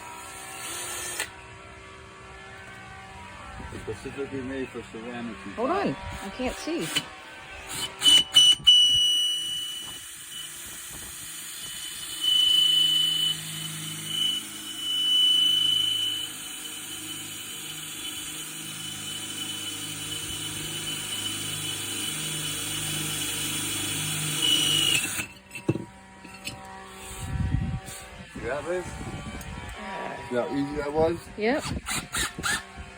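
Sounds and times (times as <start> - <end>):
power drill whining: 0.0 - 32.9.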